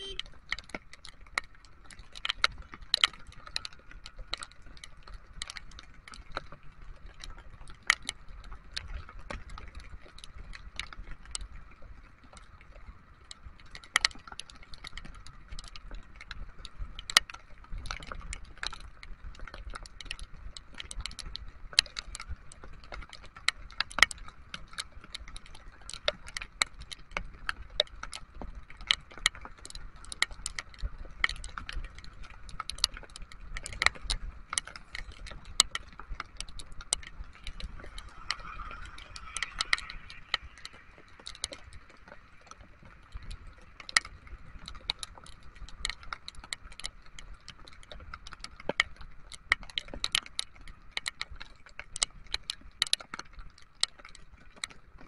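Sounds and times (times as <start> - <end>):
raindrops ticking on microphone: 0.0 - 55.0.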